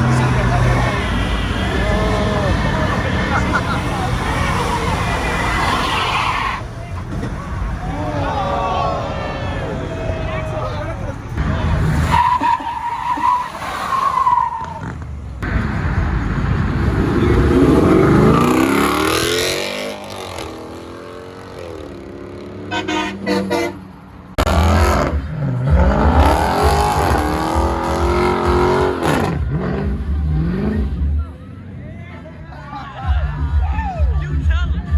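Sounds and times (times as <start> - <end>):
car engines revving: 0.0 - 33.5.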